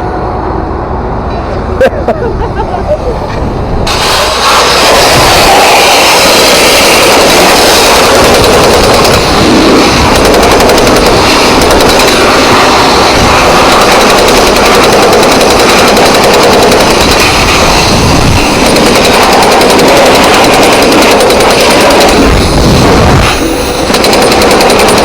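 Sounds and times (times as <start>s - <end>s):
jackhammer breaking concrete: 3.9s - 25.0s.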